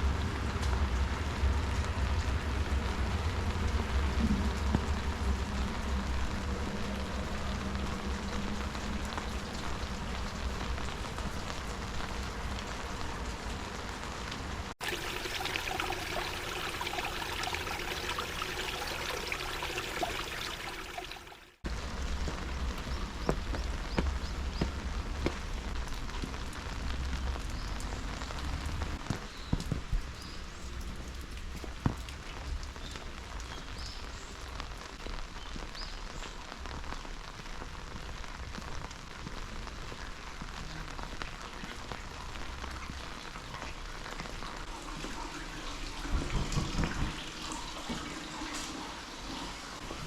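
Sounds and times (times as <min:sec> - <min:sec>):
sharp raindrop impacts: 0:00.0 - 0:48.7
heavy rain falling: 0:00.0 - 0:50.0.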